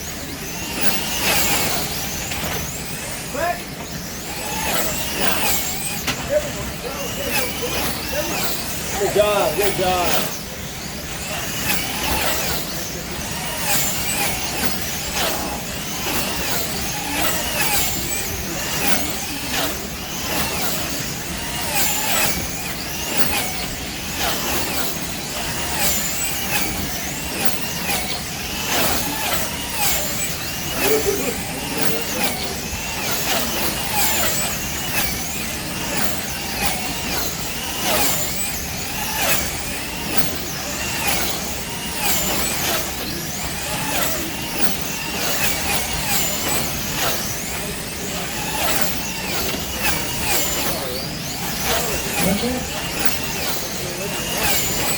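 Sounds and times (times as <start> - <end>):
slot car motors whining: 0.0 - 54.9.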